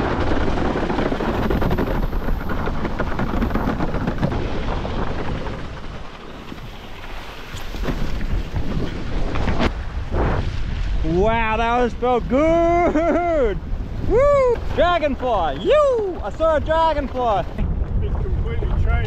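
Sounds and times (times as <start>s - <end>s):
water rushing under board: 0.0s - 19.0s
wind buffeting microphone: 0.0s - 19.0s.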